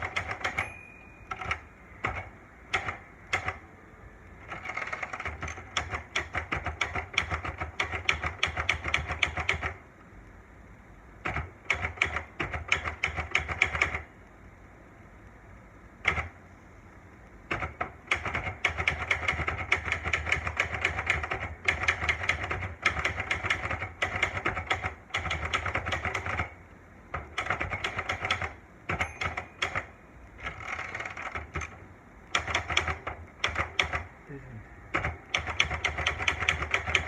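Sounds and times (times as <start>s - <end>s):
typewriter keystrokes: 0.0s - 0.7s, 1.3s - 3.7s, 4.4s - 9.8s, 11.2s - 14.1s, 16.0s - 16.4s, 17.5s - 34.1s, 34.9s - 37.0s.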